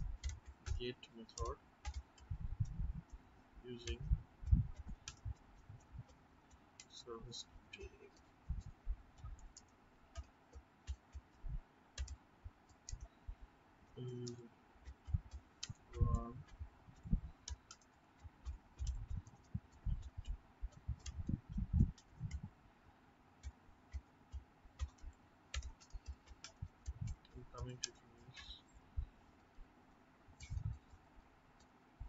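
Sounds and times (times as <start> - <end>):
typing on keyboard: 0.0 - 13.1, 14.0 - 22.5, 23.4 - 28.6.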